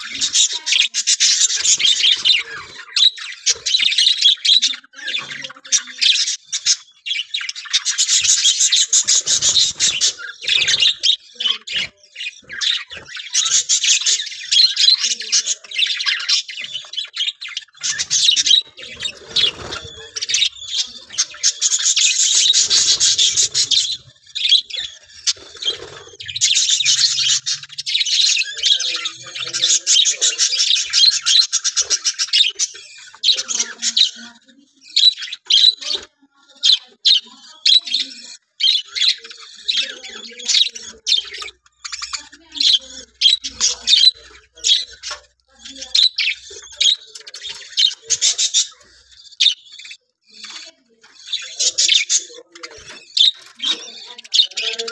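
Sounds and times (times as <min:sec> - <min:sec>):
budgerigars chattering and chirping: 0:00.0 - 0:54.9.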